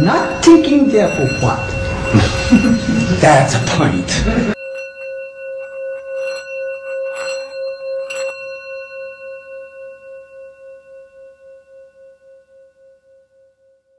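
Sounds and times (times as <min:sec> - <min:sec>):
singing bowl ringing: 0:00.0 - 0:13.9.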